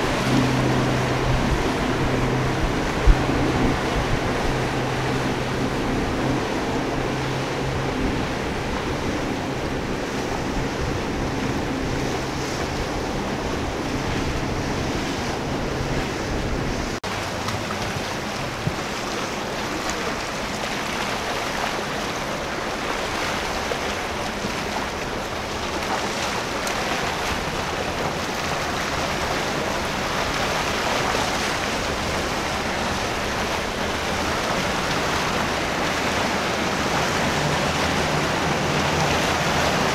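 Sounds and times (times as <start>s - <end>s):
boat outboard motors running: 0.0s - 39.9s
rush of boat wake: 0.0s - 39.9s
wind: 0.0s - 39.9s.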